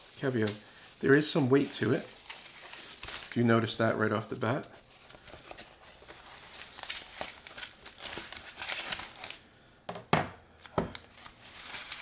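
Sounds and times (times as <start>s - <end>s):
foam packing sleeve rustling: 0.0s - 9.4s, 10.9s - 12.0s.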